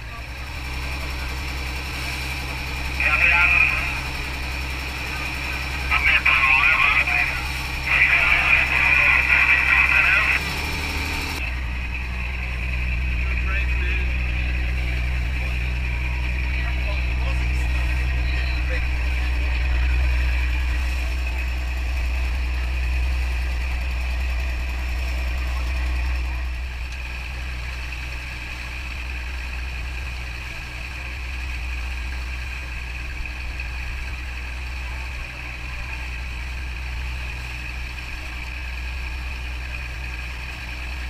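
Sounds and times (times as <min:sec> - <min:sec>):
boat engine humming: 0:00.0 - 0:41.0.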